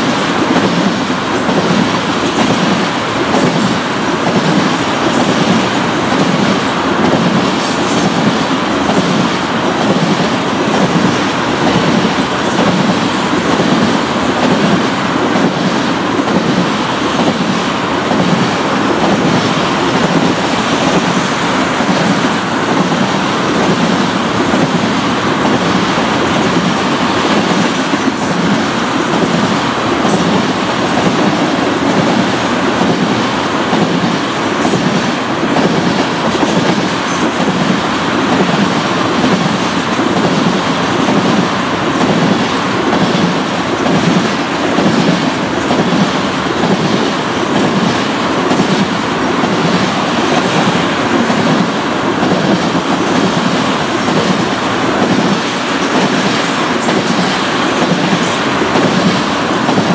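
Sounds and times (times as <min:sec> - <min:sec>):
train wheels rumbling on rails: 0:00.0 - 0:59.9
wheels clickety-clack: 0:00.0 - 0:59.9.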